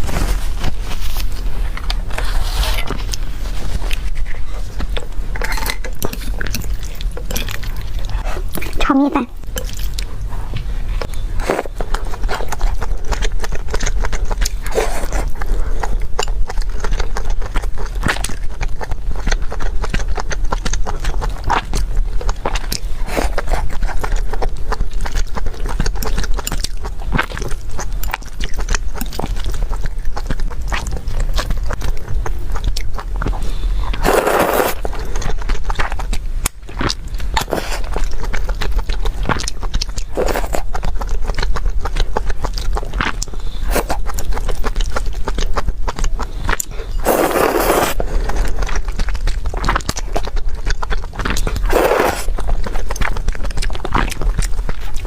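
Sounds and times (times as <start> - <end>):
chewing and biting: 0.0 - 55.0.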